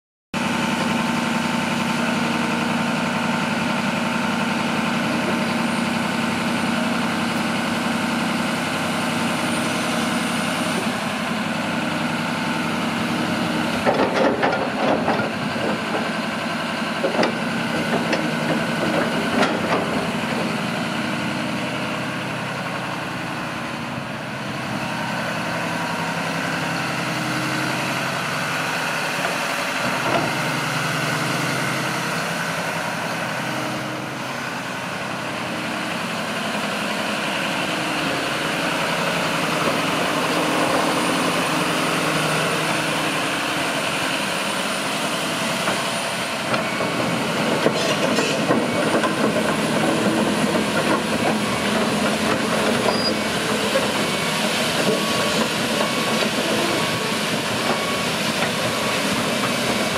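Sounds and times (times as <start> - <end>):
excavator diesel engine running: 0.4 - 59.9.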